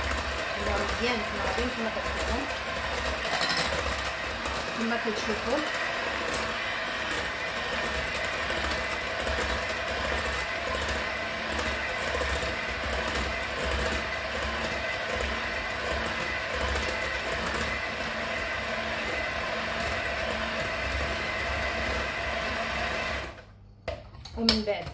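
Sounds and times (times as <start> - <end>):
electric hand mixer whisking: 0.0 - 23.5.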